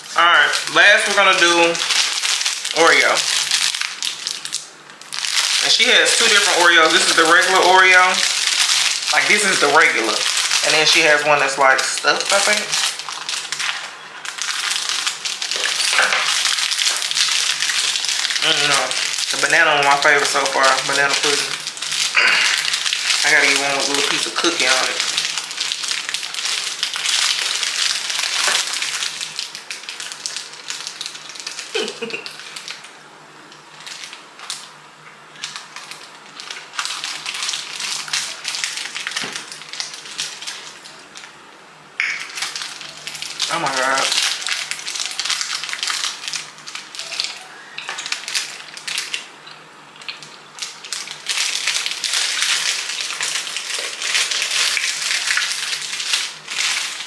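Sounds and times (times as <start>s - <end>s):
plastic wrapper crinkling: 0.0s - 41.4s, 42.0s - 57.0s
cookie breaking: 0.6s - 32.8s, 35.4s - 41.0s, 42.0s - 49.3s, 50.0s - 57.0s.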